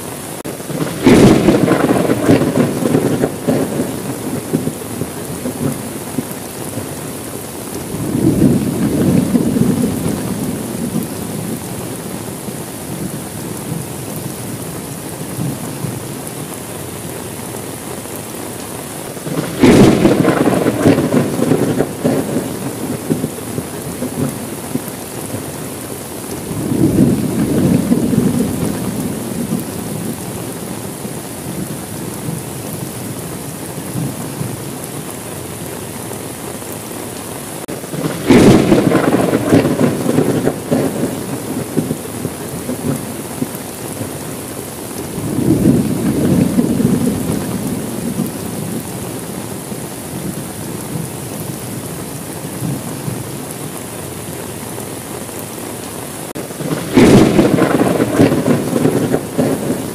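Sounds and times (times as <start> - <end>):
steady rain: 0.0 - 59.9
thunder clap and rumbling: 0.4 - 35.7, 37.6 - 54.3, 56.3 - 59.9.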